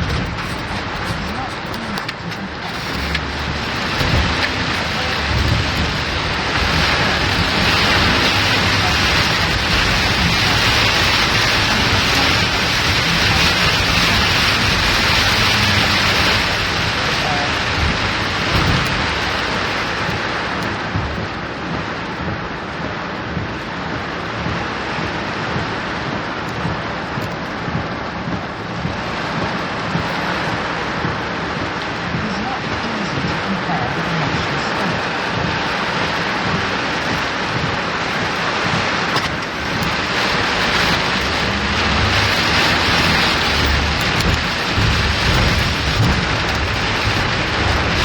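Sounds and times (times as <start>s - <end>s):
car driving through water: 0.0s - 48.0s
heavy rain hissing: 0.0s - 48.0s
road and engine rumble: 0.0s - 48.0s.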